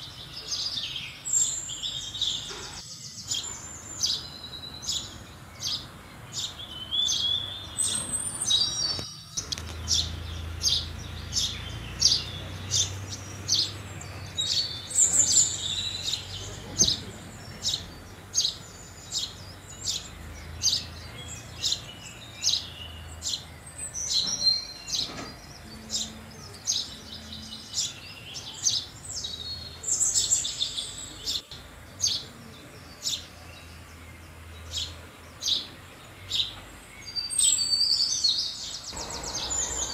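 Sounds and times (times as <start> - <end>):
house sparrow chirping: 0.0 - 39.9.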